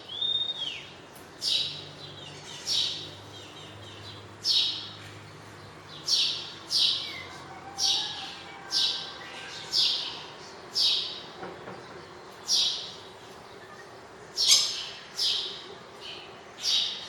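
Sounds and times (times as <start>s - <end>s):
faint background birds: 0.0s - 17.0s.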